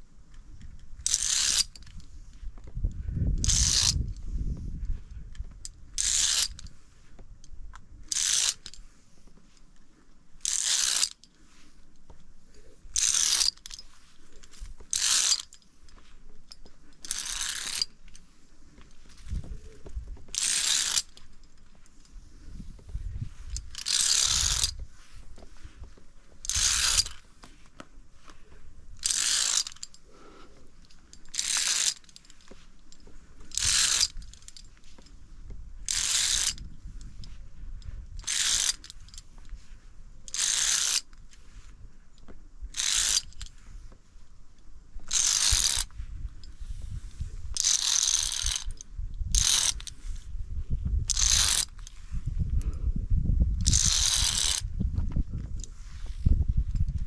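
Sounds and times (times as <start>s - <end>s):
carabiners scraping on steel cable: 0.0s - 52.9s, 53.5s - 57.0s.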